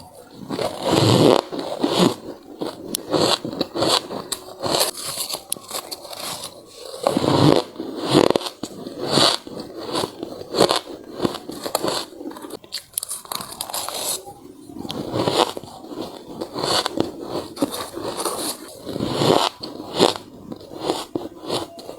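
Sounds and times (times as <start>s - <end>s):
person crunching ice: 0.0s - 14.2s, 14.9s - 21.9s
ice crackling and squeaking: 0.0s - 21.9s.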